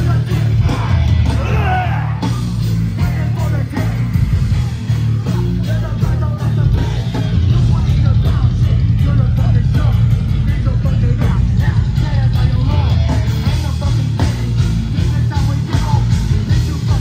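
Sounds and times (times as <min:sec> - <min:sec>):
bass: 0:00.0 - 0:17.0
distorted guitars: 0:00.0 - 0:17.0
drums: 0:00.0 - 0:17.0.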